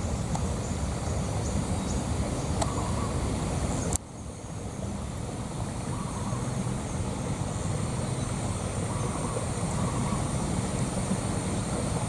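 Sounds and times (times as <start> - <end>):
faint high-pitched hiss: 0.0 - 12.0
low outdoor rumble: 0.0 - 12.0.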